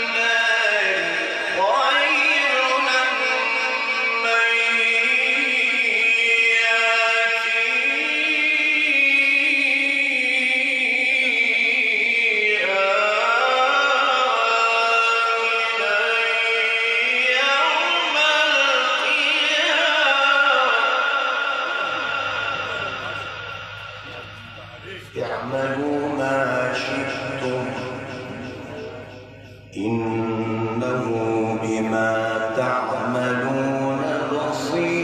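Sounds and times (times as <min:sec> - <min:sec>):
man chanting melodically: 0:00.0 - 0:35.0.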